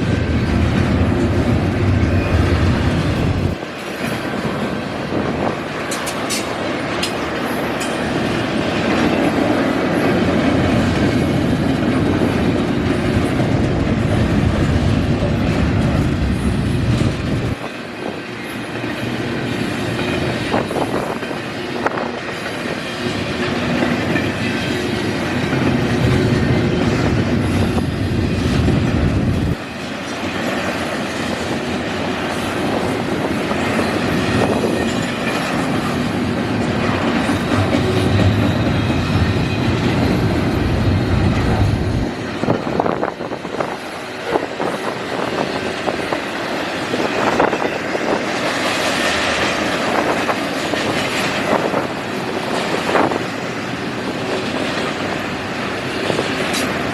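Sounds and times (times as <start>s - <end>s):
freight train rumbling past: 0.0s - 56.9s
wheels clicking over rail joints: 0.0s - 56.9s.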